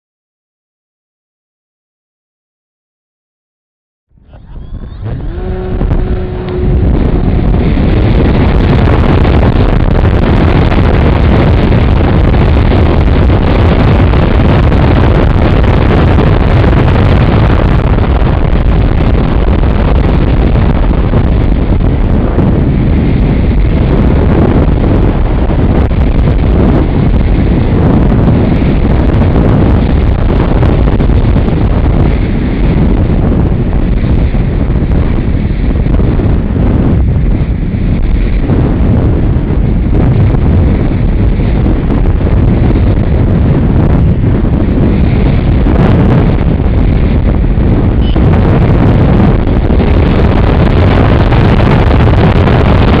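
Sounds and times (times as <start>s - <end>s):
wind buffeting microphone: 4.1s - 53.0s.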